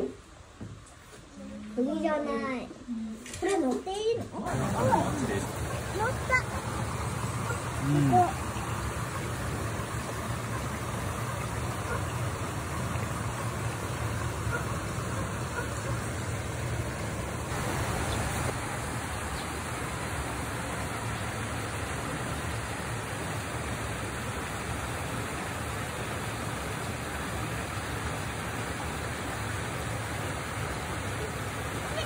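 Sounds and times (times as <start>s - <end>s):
stream running over rocks: 4.5s - 32.0s.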